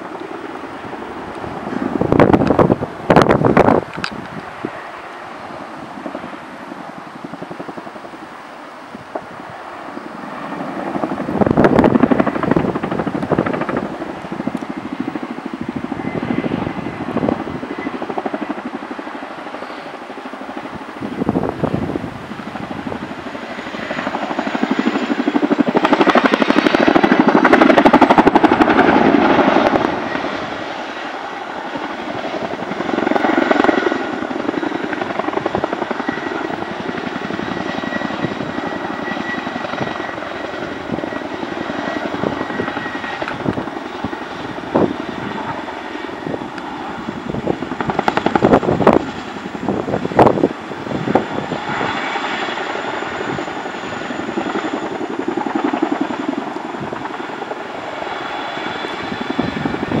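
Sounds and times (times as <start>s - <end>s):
helicopter rotors thudding: 0.0s - 8.4s, 9.0s - 60.0s
helicopter turbines running: 0.0s - 60.0s.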